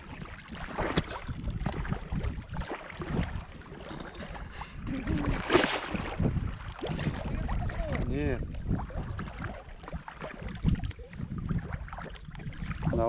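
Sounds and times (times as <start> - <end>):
fish thrashing and splashing: 0.0 - 13.0.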